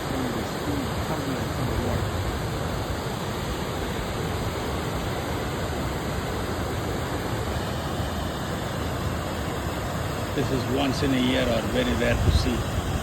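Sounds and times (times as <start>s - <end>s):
turbulent water rushing: 0.0s - 13.0s.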